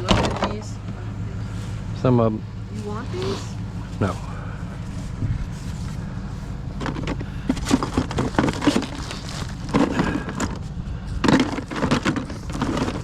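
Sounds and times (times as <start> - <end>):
junk clattering and rattling: 0.0 - 13.0
steady low rumble: 0.0 - 13.0.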